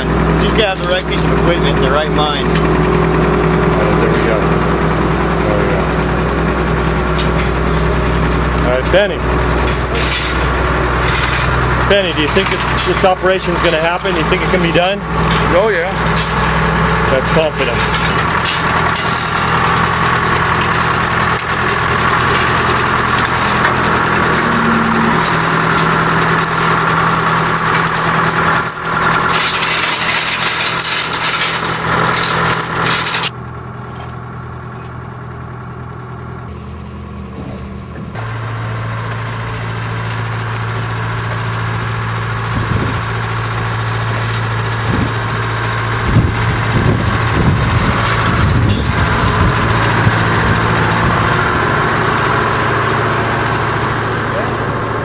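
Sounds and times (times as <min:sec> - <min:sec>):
heavy equipment engine running: 0:00.0 - 0:55.0.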